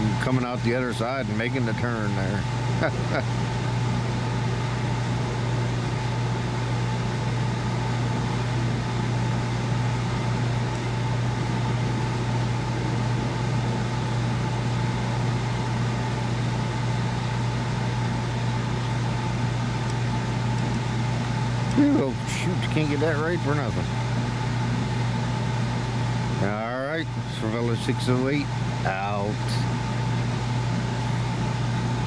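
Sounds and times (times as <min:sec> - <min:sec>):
diesel locomotive drone: 0:00.0 - 0:32.0.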